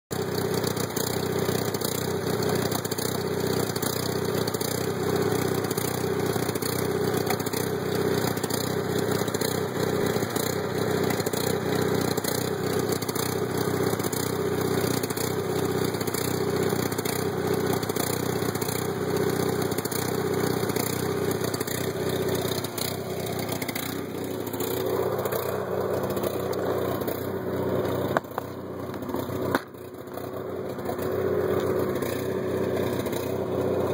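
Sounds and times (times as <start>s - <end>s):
generator engine running: 0.1s - 33.9s.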